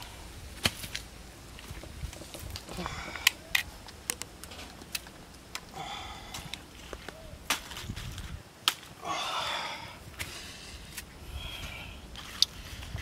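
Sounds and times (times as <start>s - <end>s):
leaves rustling: 0.0s - 13.0s.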